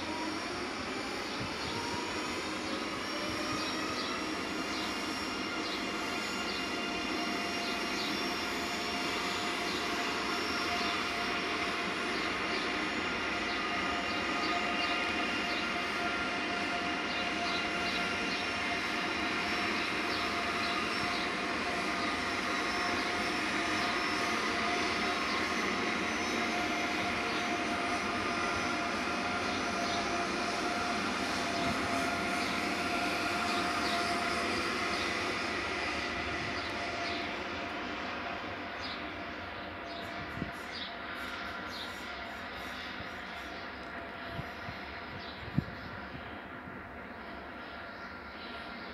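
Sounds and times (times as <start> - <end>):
electric train running slowly: 0.0 - 48.9.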